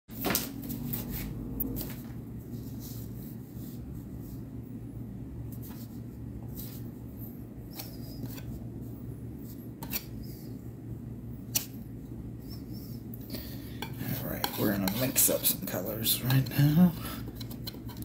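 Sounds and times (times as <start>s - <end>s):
steady low hum: 0.1s - 18.0s.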